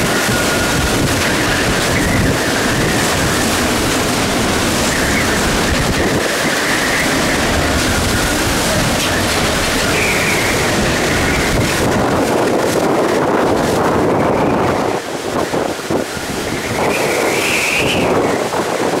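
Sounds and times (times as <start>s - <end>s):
heavy rain: 0.0s - 19.0s
high wind whistle: 0.0s - 19.0s
wind gusting against microphone: 0.0s - 19.0s.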